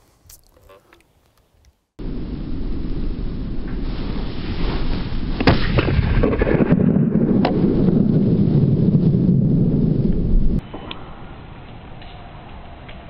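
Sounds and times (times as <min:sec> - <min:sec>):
low rumble: 0:02.0 - 0:13.0.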